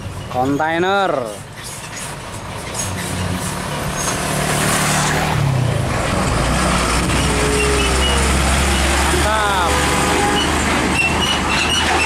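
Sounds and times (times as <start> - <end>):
tyre and road noise: 0.0 - 12.0
truck diesel engine droning: 1.1 - 12.0.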